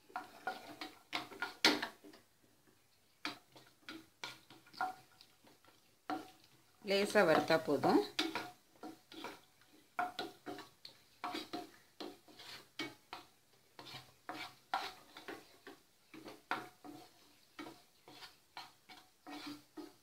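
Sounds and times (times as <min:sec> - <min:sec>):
ghee sizzling: 0:00.0 - 0:20.0
wooden spatula scraping a pan: 0:00.0 - 0:20.0.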